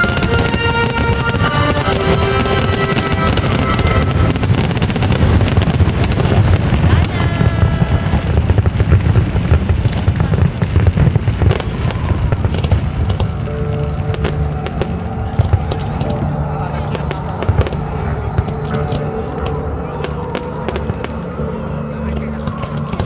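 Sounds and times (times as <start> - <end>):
fireworks crackling bursts: 0.0 - 23.0
low rumble: 0.0 - 23.0
music: 0.0 - 23.0.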